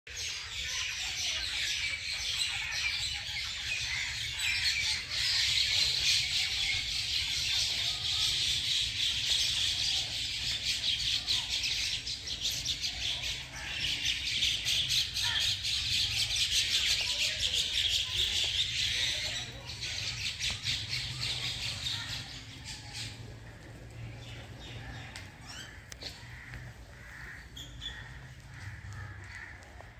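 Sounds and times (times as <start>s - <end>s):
many birds chirping: 0.1s - 29.9s.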